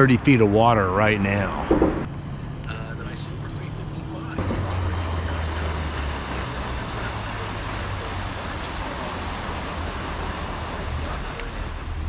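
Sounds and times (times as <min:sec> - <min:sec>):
water noise: 0:00.0 - 0:02.5, 0:03.1 - 0:12.0
wind: 0:00.0 - 0:12.0
outboard motor drone: 0:00.4 - 0:12.0.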